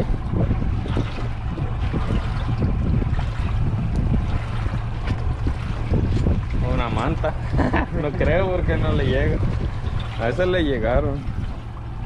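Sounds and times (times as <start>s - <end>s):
low rumble: 0.0s - 12.0s
water noise: 0.0s - 12.0s
wind on microphone: 0.0s - 12.0s.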